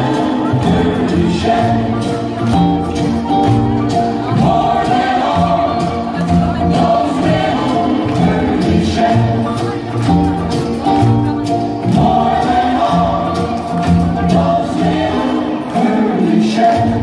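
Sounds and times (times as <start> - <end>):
song with singing over speakers: 0.0 - 17.0.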